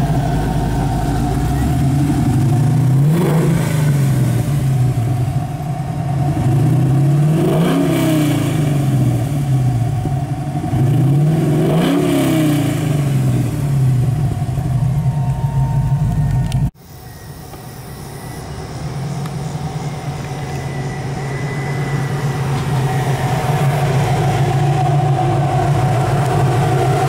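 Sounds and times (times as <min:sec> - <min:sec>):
car engine revving: 0:00.0 - 0:16.7, 0:18.2 - 0:27.0.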